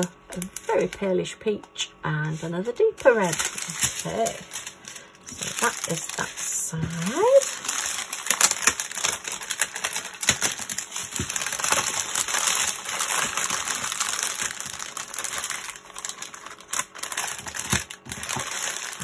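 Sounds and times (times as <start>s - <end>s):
plastic packets crinkling and clicking: 0.0s - 1.1s, 2.3s - 19.0s.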